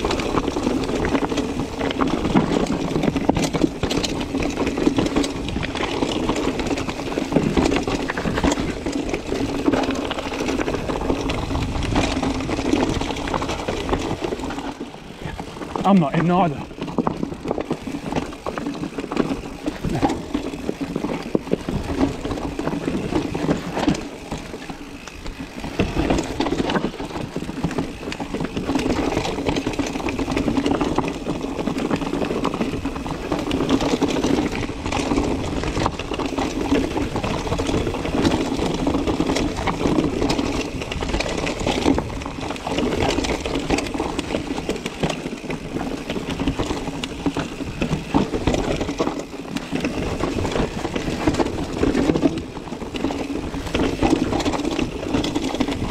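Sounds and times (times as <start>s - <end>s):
bike knocks and rattles: 0.0s - 55.9s
bike tyre noise on trail: 0.0s - 55.9s.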